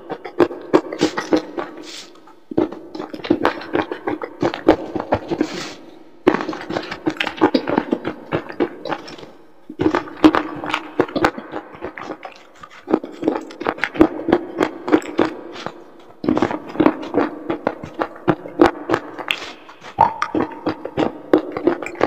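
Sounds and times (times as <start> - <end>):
crisp crunching and chewing: 0.0 - 22.0.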